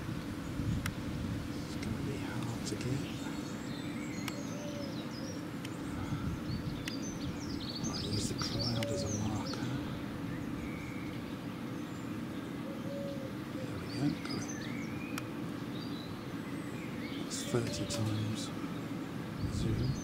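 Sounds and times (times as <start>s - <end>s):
low background rumble: 0.0s - 20.0s
small birds chirping: 0.0s - 20.0s.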